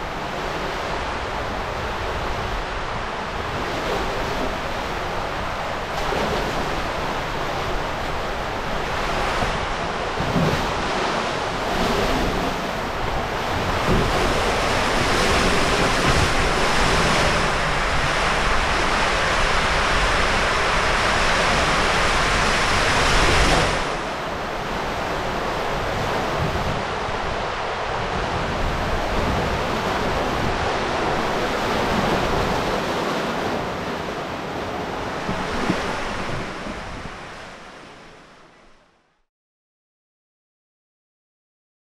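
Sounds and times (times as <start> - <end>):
water rushing through waterslide tube: 0.0 - 38.0.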